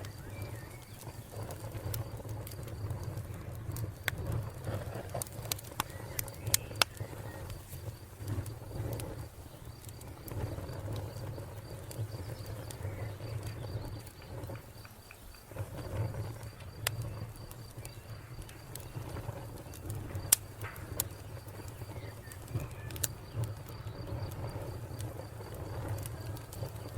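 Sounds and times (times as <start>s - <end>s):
crickets chirping: 0.0s - 26.9s
wood fire crackling: 0.0s - 26.9s.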